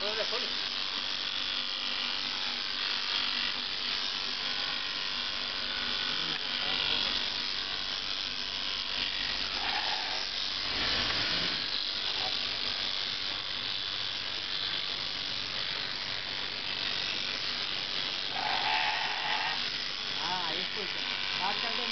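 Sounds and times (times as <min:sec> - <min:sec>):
shearing machine clipping fleece: 0:00.0 - 0:21.9.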